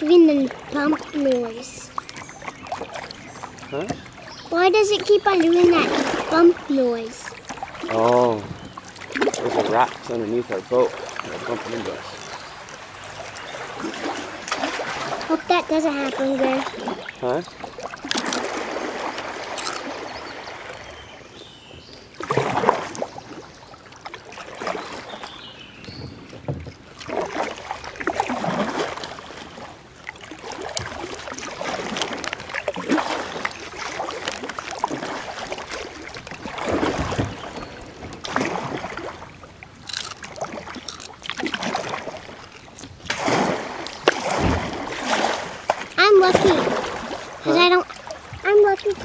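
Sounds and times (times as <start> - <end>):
moving river water: 0.0 - 49.0
paddle splashing in water: 0.0 - 49.0.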